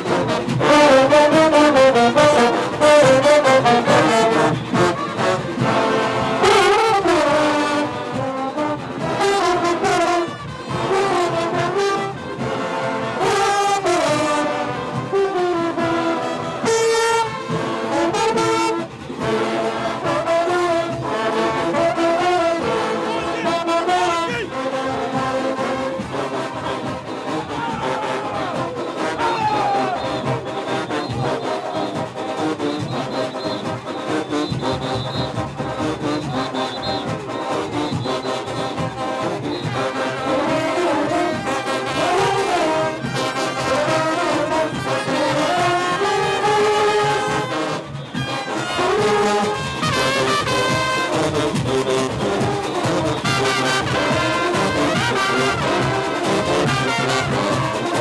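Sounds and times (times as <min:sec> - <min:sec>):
brass horns playing melody: 0:00.0 - 0:58.0
drums beating: 0:00.0 - 0:58.0.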